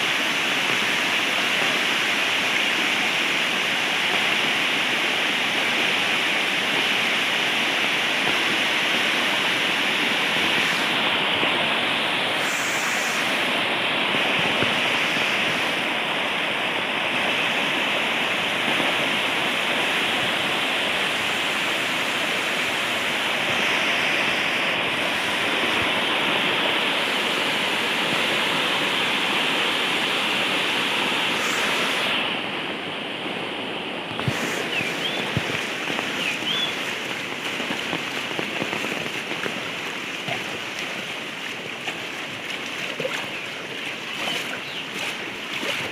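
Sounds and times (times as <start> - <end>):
rushing water: 0.0 - 45.9.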